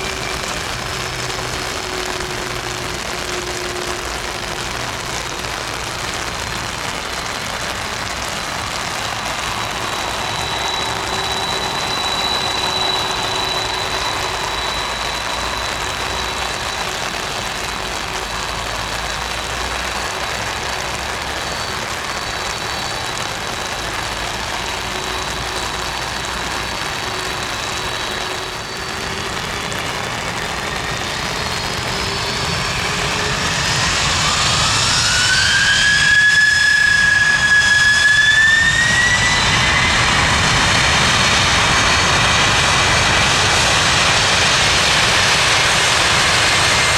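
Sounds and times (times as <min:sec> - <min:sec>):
jet engines whining: 0:00.0 - 0:46.9.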